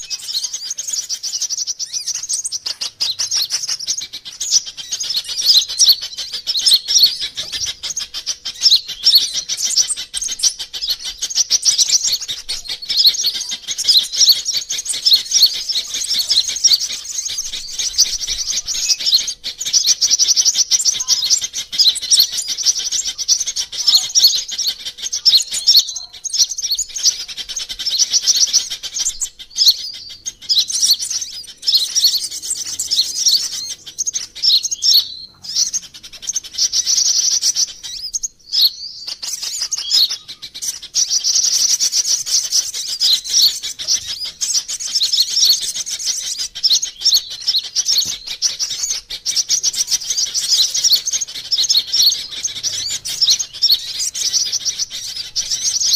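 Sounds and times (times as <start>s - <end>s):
sunbirds chirping and trilling: 0.0s - 55.9s.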